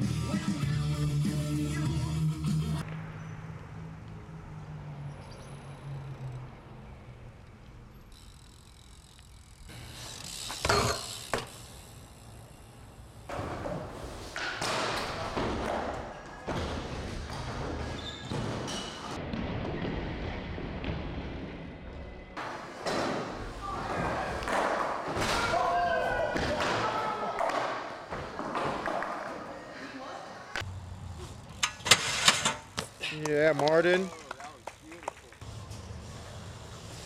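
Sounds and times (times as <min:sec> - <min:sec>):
bike tyres rolling on concrete: 0:06.1 - 0:21.6, 0:22.4 - 0:37.0.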